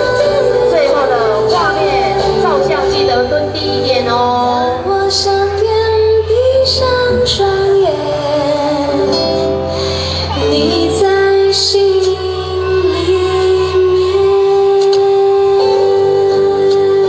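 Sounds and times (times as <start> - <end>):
recorded musical backing track: 0.0 - 17.0
woman singing: 0.0 - 17.0.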